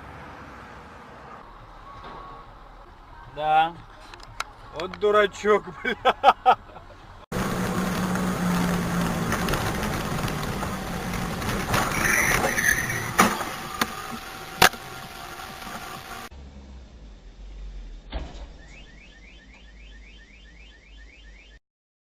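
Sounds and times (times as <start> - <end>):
low engine hum: 0.0 - 19.9
car driving: 0.0 - 20.7.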